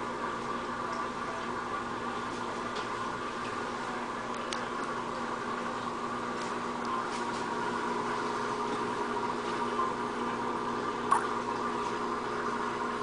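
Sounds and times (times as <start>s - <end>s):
aquarium filter humming: 0.0s - 13.0s
water bubbling and trickling: 0.0s - 13.0s.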